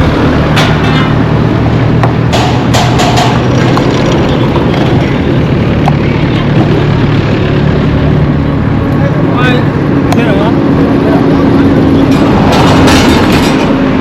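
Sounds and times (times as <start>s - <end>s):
street traffic noise: 0.0s - 14.0s
vehicle engine running nearby: 0.0s - 14.0s.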